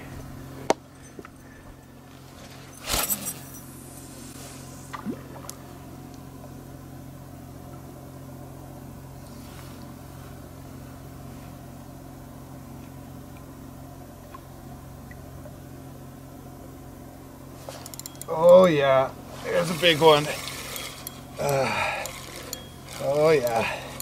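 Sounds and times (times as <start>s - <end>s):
distant motor humming: 0.0s - 24.0s.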